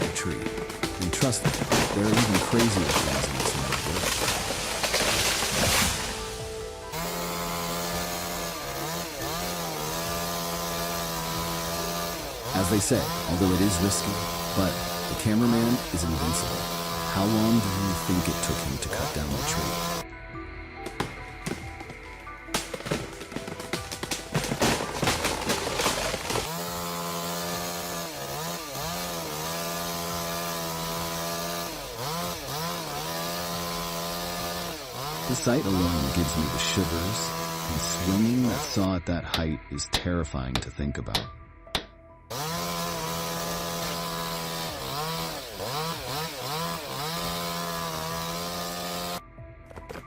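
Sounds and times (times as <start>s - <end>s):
chainsaw running at high revs: 0.0s - 20.0s, 20.9s - 38.9s, 42.3s - 49.2s.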